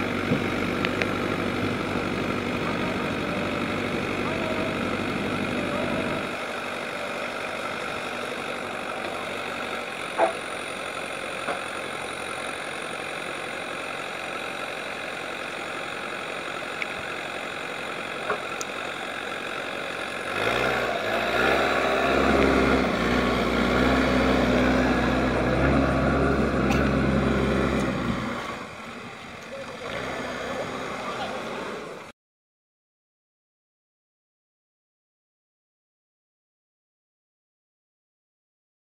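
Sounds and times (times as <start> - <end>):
diesel engine running: 0.0 - 32.1.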